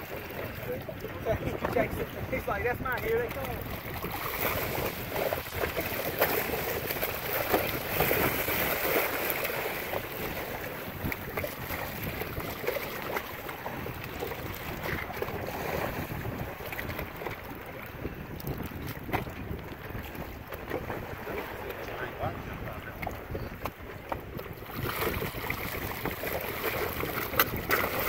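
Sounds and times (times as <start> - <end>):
water splashing and churning: 0.0 - 28.0.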